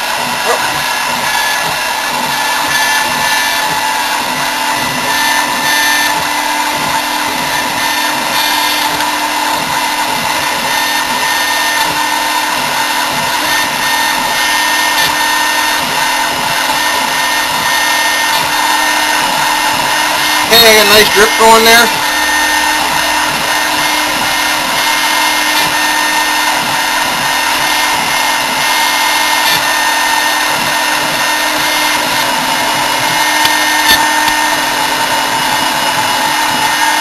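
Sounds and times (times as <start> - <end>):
mill spindle cutting wax: 0.0 - 37.0.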